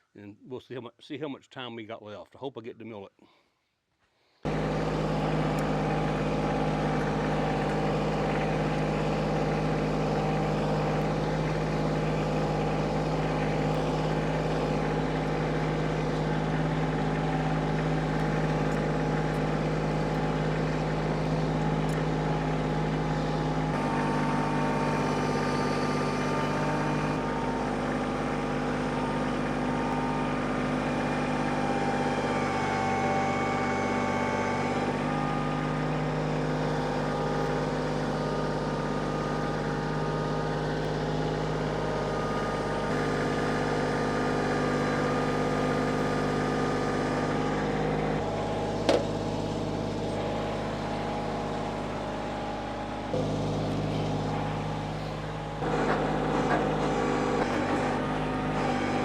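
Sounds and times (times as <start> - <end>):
machine engine running: 4.5 - 59.0.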